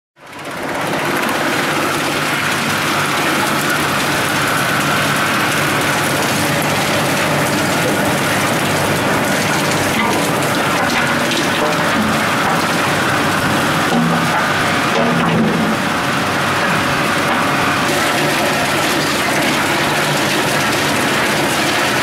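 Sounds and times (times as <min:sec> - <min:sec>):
wood chipper humming and rattling: 0:00.2 - 0:22.0.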